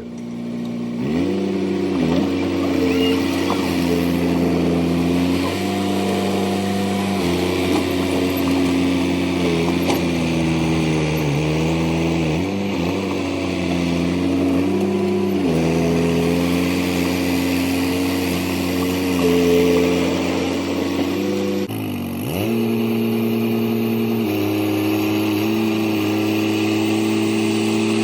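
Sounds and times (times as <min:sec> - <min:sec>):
heavy machine engine running: 0:00.0 - 0:28.0.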